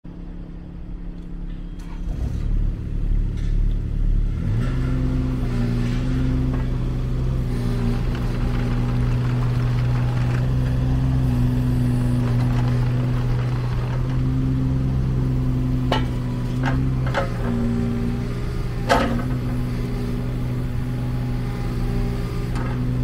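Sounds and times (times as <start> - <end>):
diesel excavator engine running: 0.1 - 23.0.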